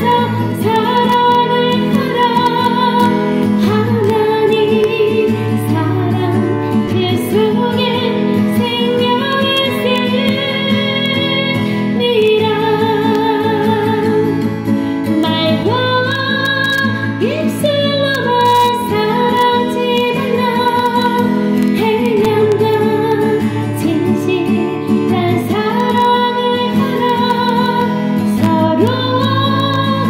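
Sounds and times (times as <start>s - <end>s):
woman singing gospel song: 0.0s - 14.4s, 15.2s - 30.0s
acoustic guitar: 0.0s - 30.0s.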